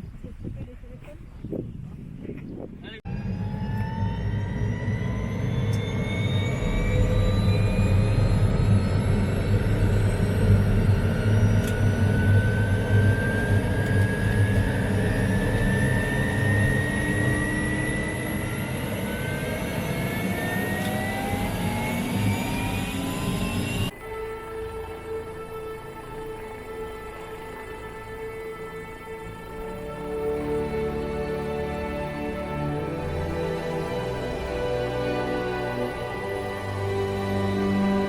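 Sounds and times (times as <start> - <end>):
helicopter rotor beat: 3.1 - 38.0
turbine whine rising in pitch: 3.1 - 38.0.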